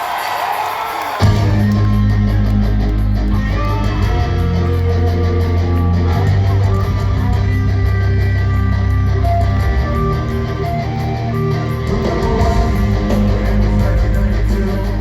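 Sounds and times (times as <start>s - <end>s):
bass guitar: 1.2s - 15.0s
electric guitar chords: 1.2s - 15.0s.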